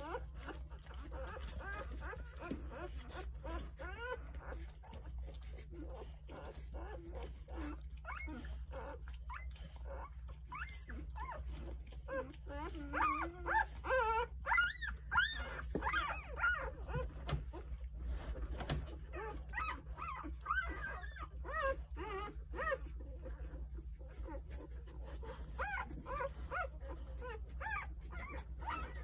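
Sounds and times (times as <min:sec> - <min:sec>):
puppies squeaking and whimpering: 0:00.0 - 0:29.0.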